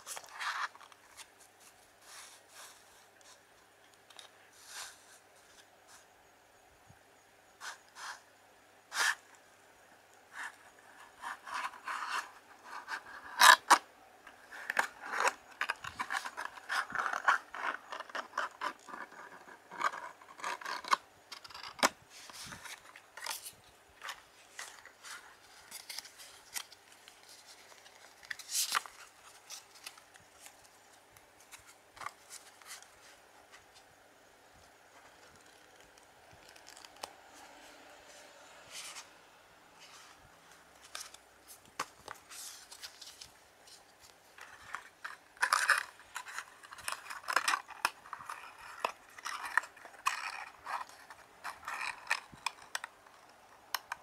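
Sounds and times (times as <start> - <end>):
playing cards sliding and scraping: 0.0 - 3.5, 4.1 - 6.1, 7.6 - 8.3, 8.9 - 9.4, 10.3 - 30.8, 31.4 - 33.9, 34.6 - 53.3.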